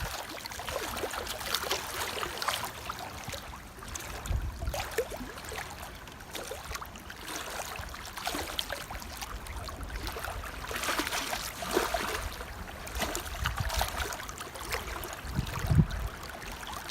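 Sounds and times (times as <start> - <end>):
water trickling and splashing: 0.0 - 16.9.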